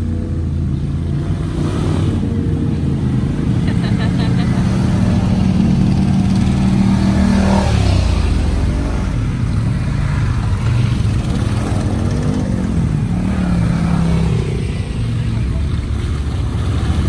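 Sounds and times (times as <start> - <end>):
atv engines passing: 0.0 - 17.0.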